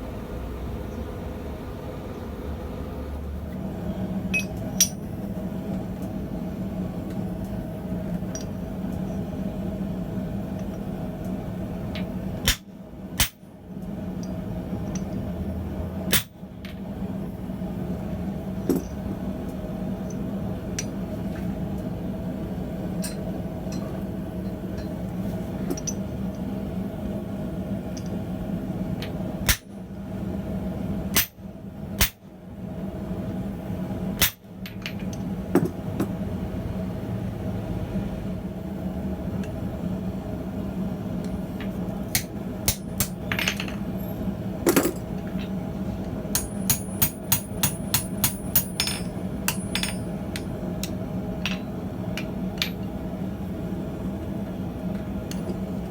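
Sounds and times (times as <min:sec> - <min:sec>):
gas forge humming: 0:00.0 - 0:55.9.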